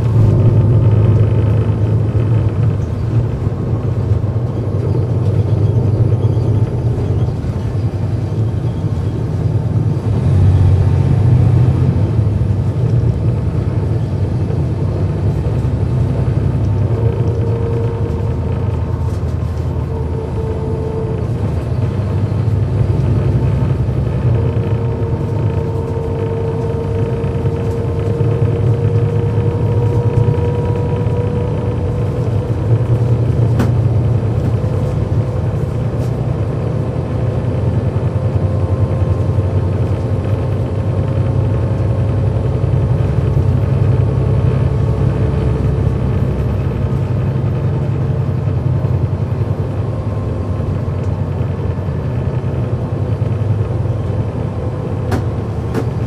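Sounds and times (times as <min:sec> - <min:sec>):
bus diesel engine rumble and whine: 0:00.0 - 0:56.0.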